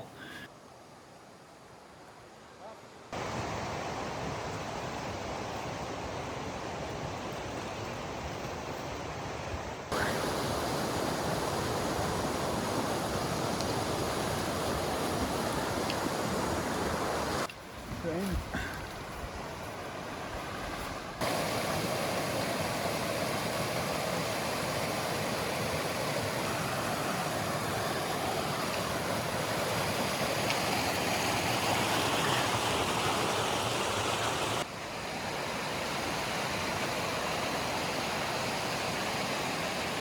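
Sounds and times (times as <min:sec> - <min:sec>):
creek water flowing: 0:00.0 - 0:40.0.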